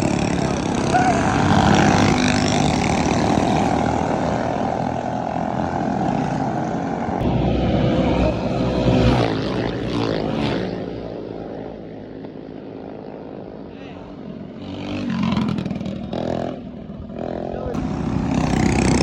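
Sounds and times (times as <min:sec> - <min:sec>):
minibike engine running: 0:00.0 - 0:19.0.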